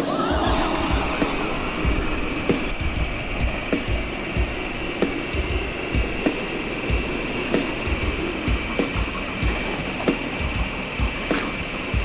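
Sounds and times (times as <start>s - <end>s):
small electric motor whining: 0.0s - 12.0s
soft low thumps: 0.5s - 12.0s.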